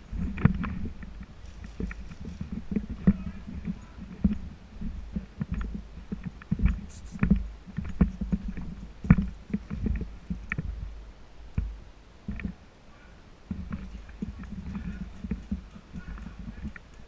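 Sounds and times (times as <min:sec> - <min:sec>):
clothing and gear rustling: 0:00.0 - 0:12.6, 0:13.4 - 0:17.0.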